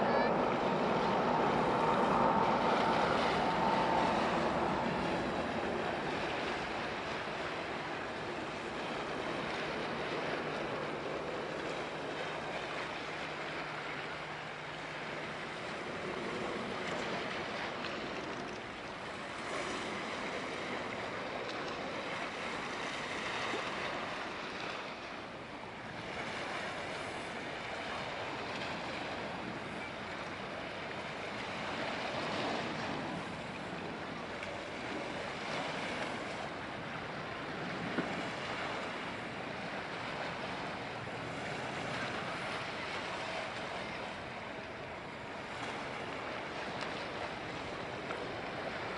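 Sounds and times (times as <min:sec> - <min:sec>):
water rushing: 0:00.0 - 0:48.9
wind: 0:00.0 - 0:48.9.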